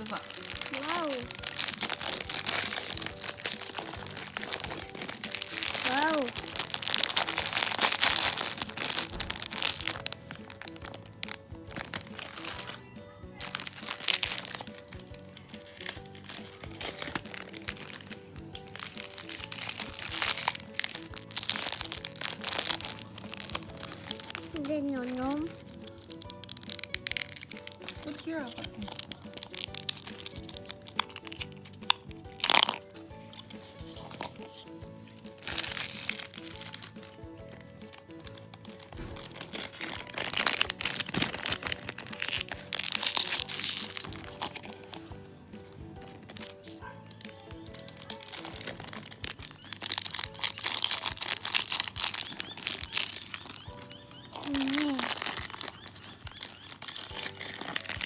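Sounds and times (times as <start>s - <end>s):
background music: 0.0s - 58.0s
plastic packaging crinkling: 0.0s - 58.0s.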